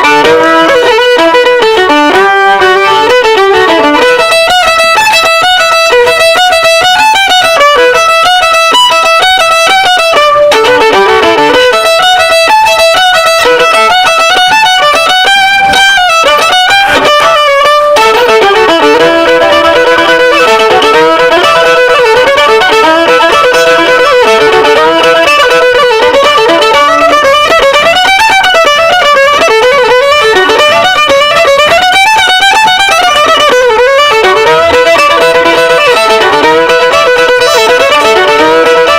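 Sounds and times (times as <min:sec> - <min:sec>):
fiddle music: 0:00.0 - 0:38.9.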